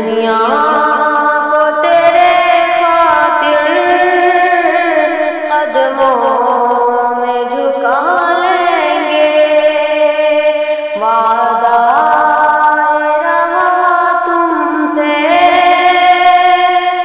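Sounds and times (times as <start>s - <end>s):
person singing slow melody: 0.0s - 17.0s.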